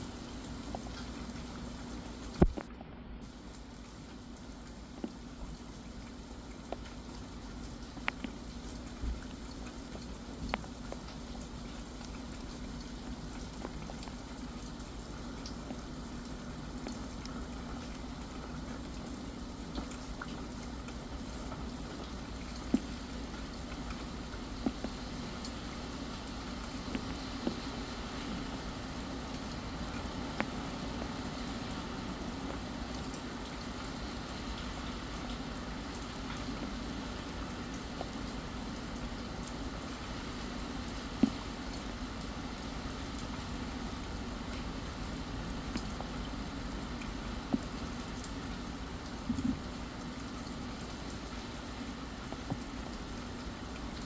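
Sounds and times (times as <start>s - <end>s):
steady rain falling: 0.0s - 54.0s
raindrop ticks: 0.2s - 54.0s.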